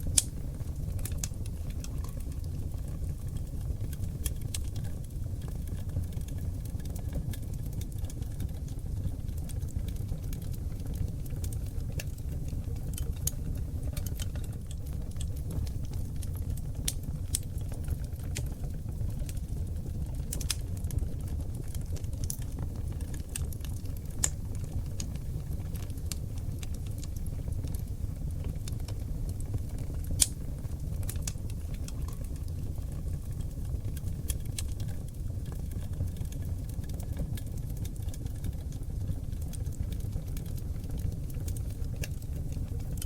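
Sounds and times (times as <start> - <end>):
fire crackling and popping: 0.0 - 43.0
low rumble of flames: 0.0 - 43.0.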